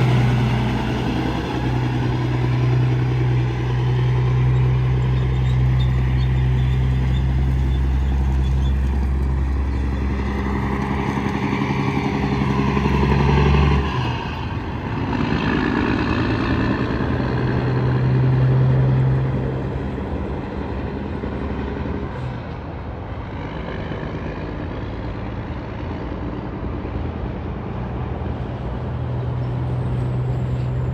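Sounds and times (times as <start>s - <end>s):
diesel engine drone: 0.0s - 30.9s
trucks passing: 0.0s - 30.9s.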